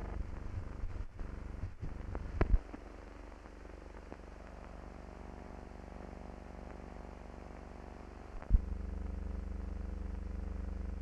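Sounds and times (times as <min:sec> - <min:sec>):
faint ticks: 0:00.0 - 0:09.2
film soundtrack hum and hiss: 0:00.0 - 0:11.0.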